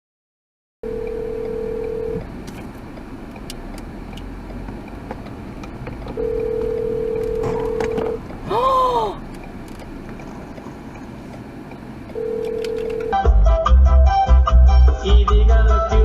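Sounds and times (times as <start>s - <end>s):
low road rumble: 0.8s - 15.6s.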